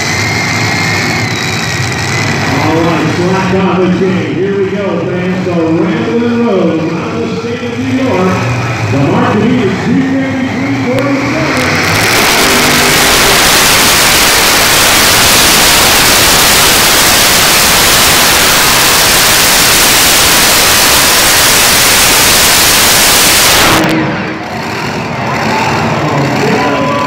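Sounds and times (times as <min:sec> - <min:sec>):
tractor engine roaring under load: 0:00.0 - 0:27.0.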